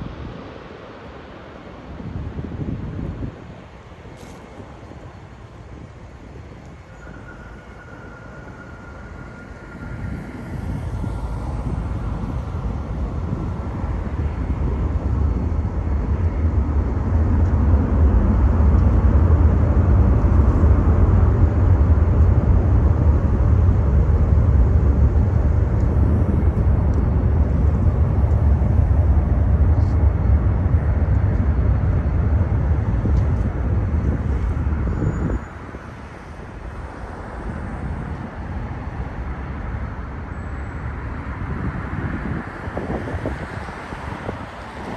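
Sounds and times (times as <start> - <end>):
jet airliner landing rumble: 0.0 - 44.9.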